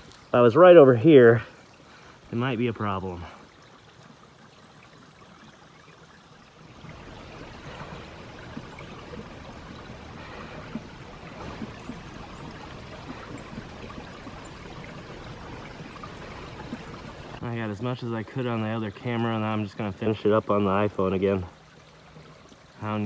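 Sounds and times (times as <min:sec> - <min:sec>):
creek water trickling: 0:00.0 - 0:23.0.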